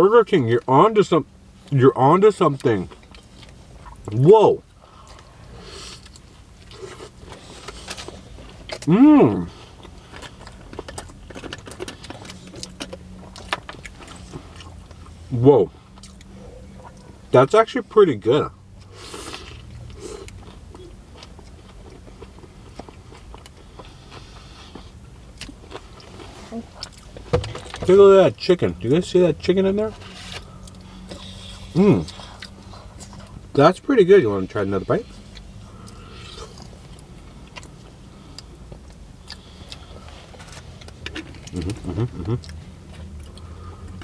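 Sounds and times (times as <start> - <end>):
steady low hum: 0.0 - 44.0
chewing with crunches: 1.3 - 44.0.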